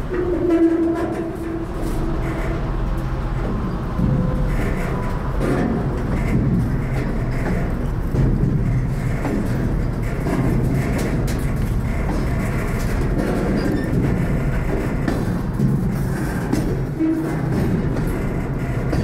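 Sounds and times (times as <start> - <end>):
train clanks and wheel clatter: 0.0 - 19.0
train rumbling on track: 0.0 - 19.0.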